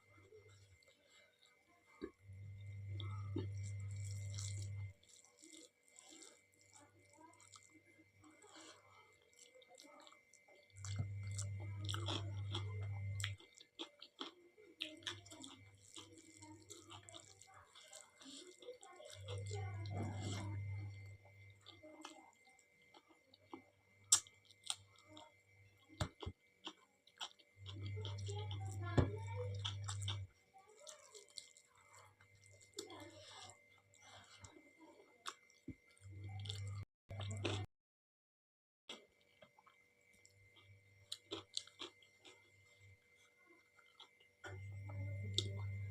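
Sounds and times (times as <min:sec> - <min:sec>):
close chewing with mouth smacks: 0:00.2 - 0:37.7, 0:38.9 - 0:45.9.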